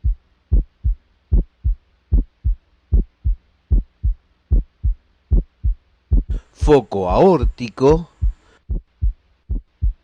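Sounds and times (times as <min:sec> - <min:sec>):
heartbeat through stethoscope: 0:00.0 - 0:06.8, 0:07.4 - 0:10.0.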